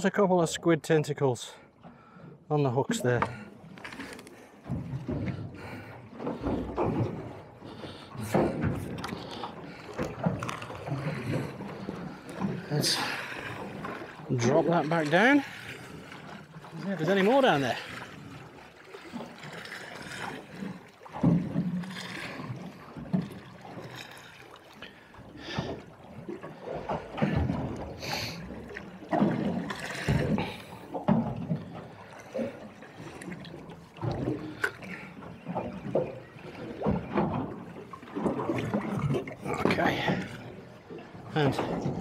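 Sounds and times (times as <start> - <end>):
water slapping against boat hull: 1.8 - 42.0.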